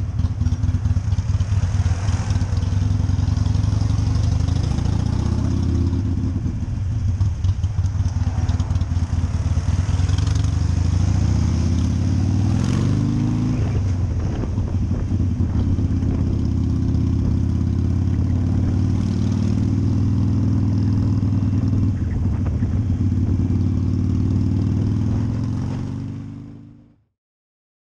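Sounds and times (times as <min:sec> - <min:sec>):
wind noise: 0:00.0 - 0:20.2, 0:21.0 - 0:26.0
motorcycle engine running: 0:00.0 - 0:26.8.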